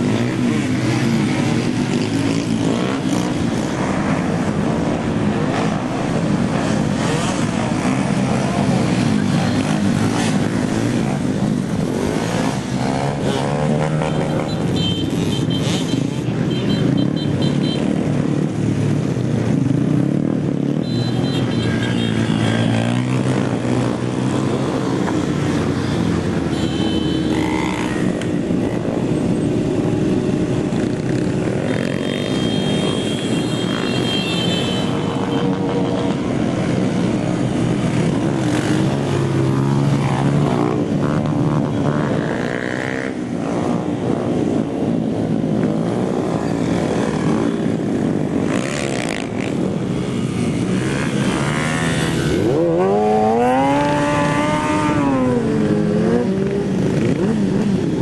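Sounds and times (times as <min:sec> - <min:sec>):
small motorcycles revving: 0:00.0 - 0:58.0.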